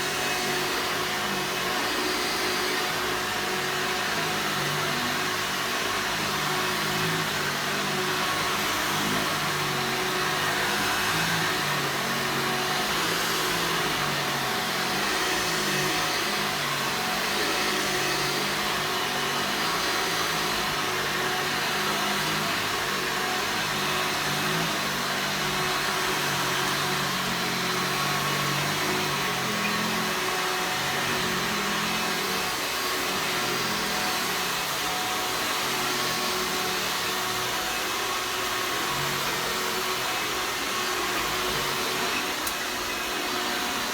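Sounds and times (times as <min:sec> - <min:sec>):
vacuum cleaner motor whirring: 0:00.0 - 0:43.9.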